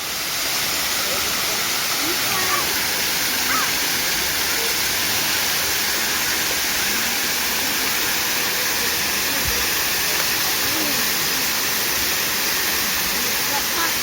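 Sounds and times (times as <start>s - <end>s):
waterfall rushing onto rocks: 0.0s - 14.0s.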